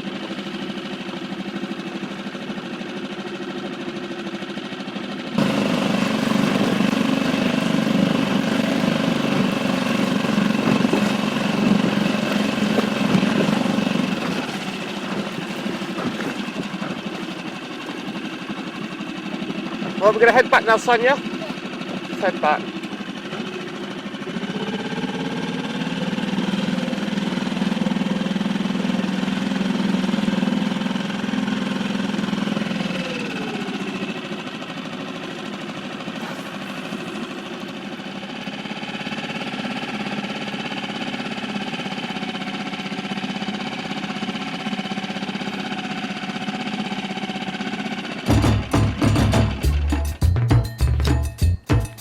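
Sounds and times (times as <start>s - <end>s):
outboard motor running: 0.0s - 50.2s.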